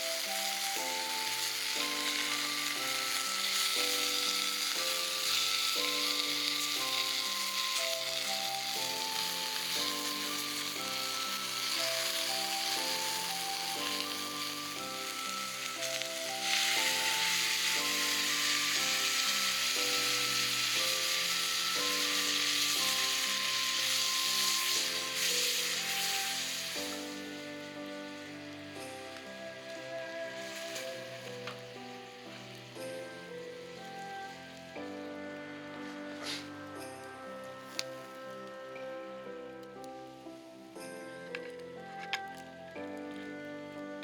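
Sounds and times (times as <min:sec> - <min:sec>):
background music melody: 0:00.0 - 0:44.0
meat sizzling over fire: 0:00.0 - 0:44.0.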